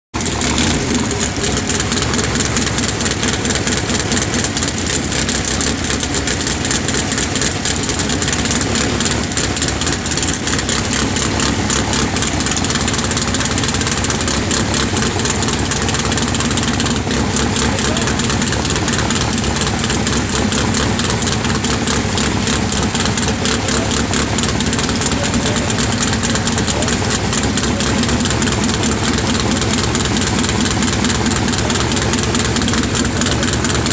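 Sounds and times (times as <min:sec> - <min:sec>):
drag racing engine idling: 0:00.1 - 0:33.9.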